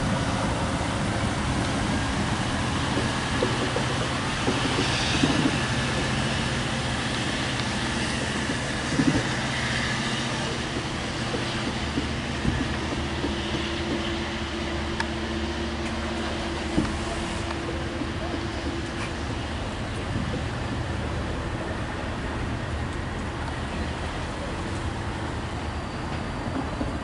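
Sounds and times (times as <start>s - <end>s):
train low hum: 0.0s - 27.0s.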